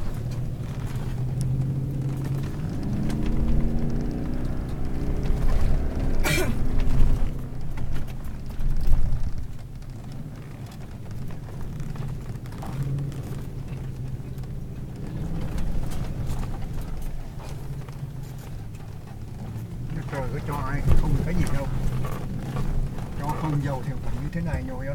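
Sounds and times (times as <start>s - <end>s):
suv engine rumbling: 0.0s - 24.9s.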